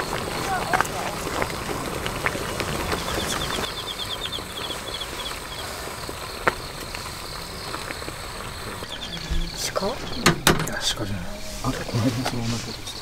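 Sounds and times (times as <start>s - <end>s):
water boiling and bubbling: 0.0s - 13.0s.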